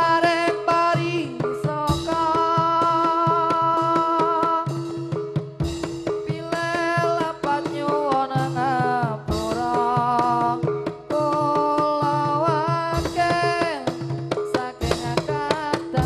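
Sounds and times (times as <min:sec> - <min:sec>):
drums beating quick rhythm: 0:00.0 - 0:16.0.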